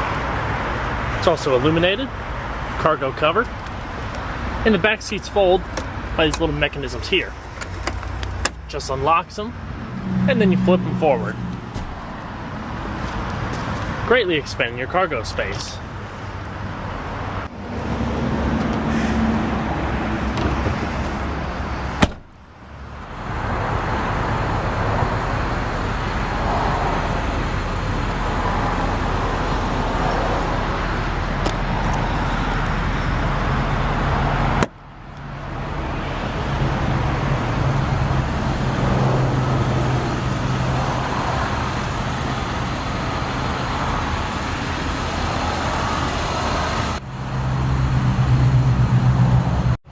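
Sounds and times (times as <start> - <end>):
road traffic noise: 0.0 - 49.9.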